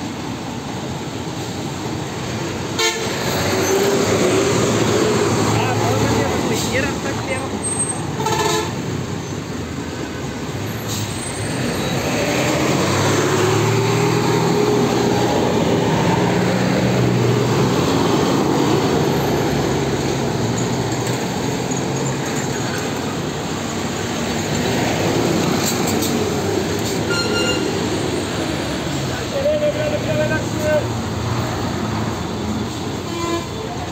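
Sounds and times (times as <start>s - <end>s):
bus engines rumbling: 0.0s - 33.9s
road traffic noise: 0.0s - 33.9s.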